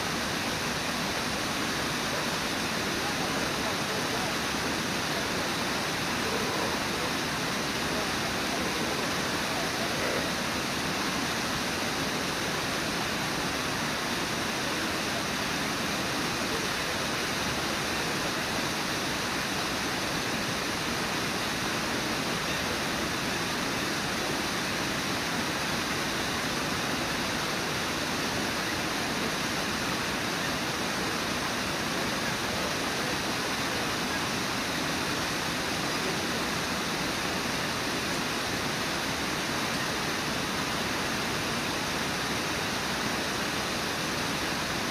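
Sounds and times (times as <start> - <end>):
river rapids rushing: 0.0 - 44.9.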